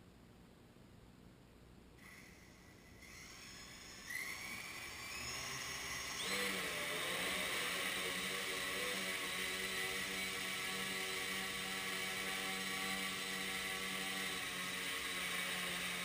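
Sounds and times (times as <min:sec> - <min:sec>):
drone motors whining: 0:02.0 - 0:16.0.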